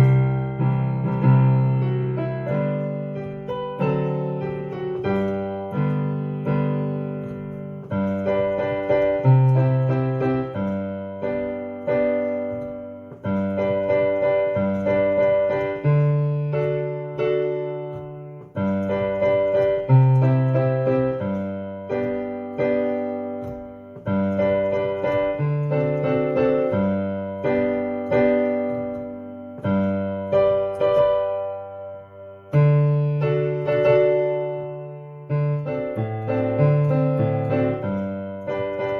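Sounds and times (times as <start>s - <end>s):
slow piano hymn chords: 0.0s - 38.9s.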